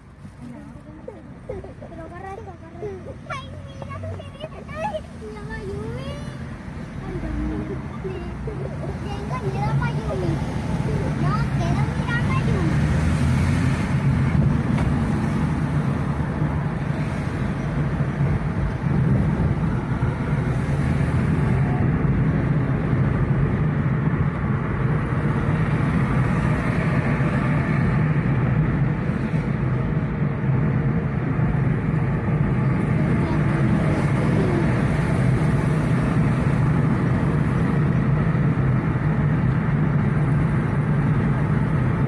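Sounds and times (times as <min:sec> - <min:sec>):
car cabin engine hum: 0:00.0 - 0:42.0.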